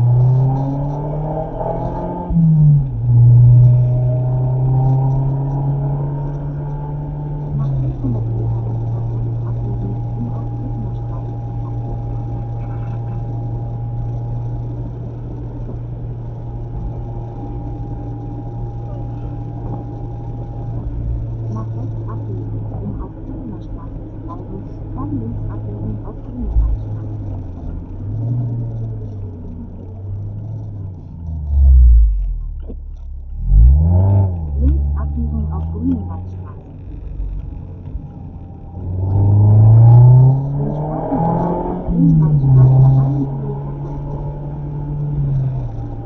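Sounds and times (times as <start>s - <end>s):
car engine drone: 0.0s - 46.0s
road noise: 0.0s - 46.0s.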